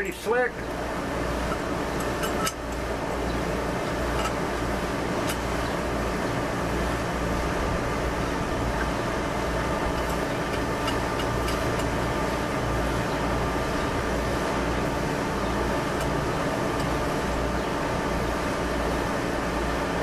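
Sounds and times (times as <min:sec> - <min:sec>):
machine drone: 0:00.0 - 0:20.0.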